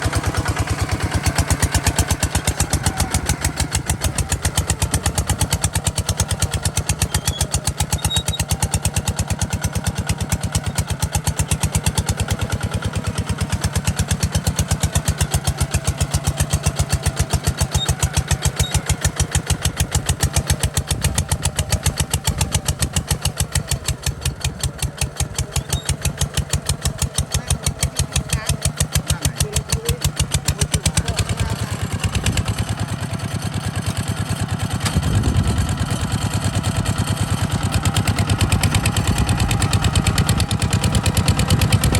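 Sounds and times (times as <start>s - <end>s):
diesel engine knocking: 0.0s - 41.9s.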